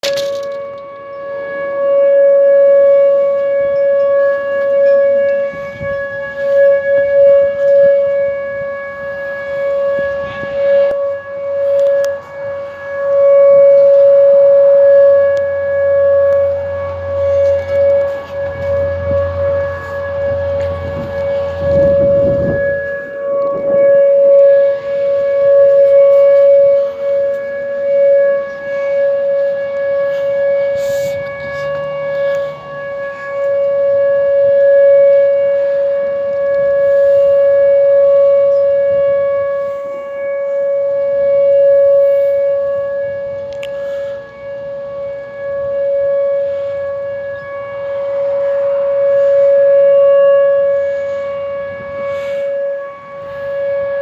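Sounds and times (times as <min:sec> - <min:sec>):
outdoor warning siren tone: 0:00.0 - 0:54.0.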